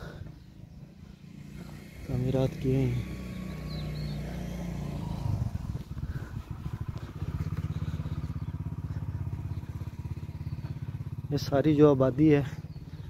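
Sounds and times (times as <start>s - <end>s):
motorcycle engine puttering: 0.0s - 13.0s.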